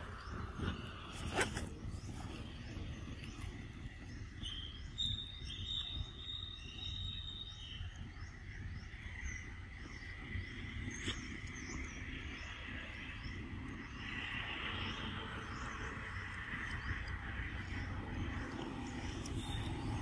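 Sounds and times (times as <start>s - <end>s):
insects droning: 0.0s - 20.0s
small birds chirping: 0.0s - 20.0s.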